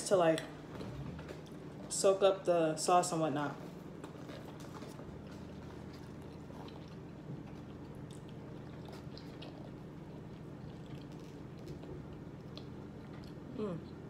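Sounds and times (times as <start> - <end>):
steady low hum: 0.0 - 14.0
chewing food: 0.3 - 1.9, 3.8 - 14.0.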